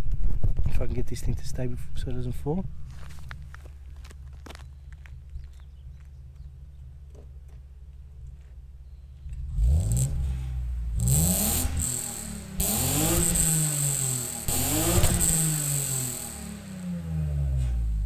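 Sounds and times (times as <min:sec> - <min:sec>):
car engine idling and revving: 0:02.6 - 0:18.0.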